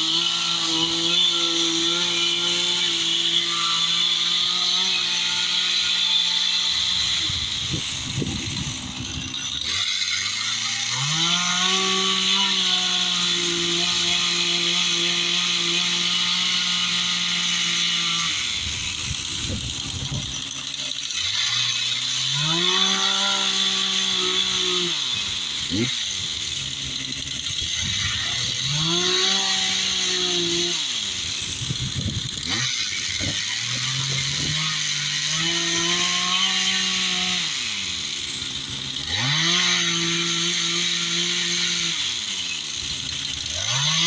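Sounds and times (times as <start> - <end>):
chainsaw revving and idling: 0.0 - 44.0.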